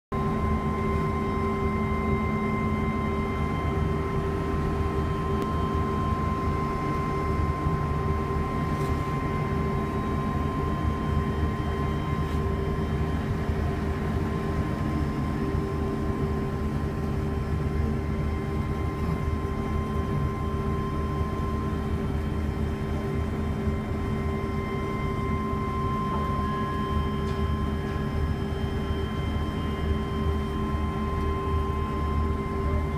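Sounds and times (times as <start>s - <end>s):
welding machinery drone with whine: 0.2s - 32.9s.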